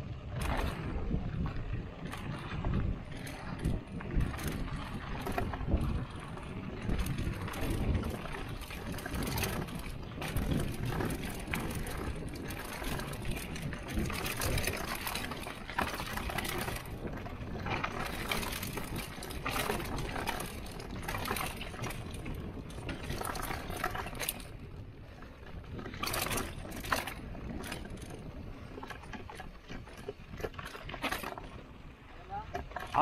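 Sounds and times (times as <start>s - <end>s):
bike chain and parts rattling: 0.0s - 33.0s
bike tyres crunching over dirt: 0.0s - 33.0s.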